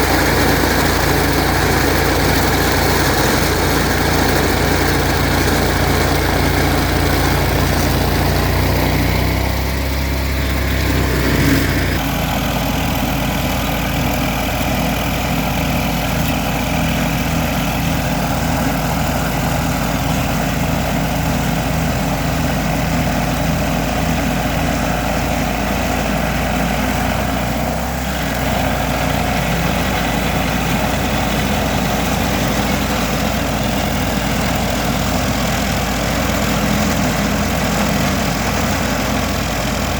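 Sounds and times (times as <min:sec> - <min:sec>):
stump grinder engine running: 0:00.0 - 0:39.9.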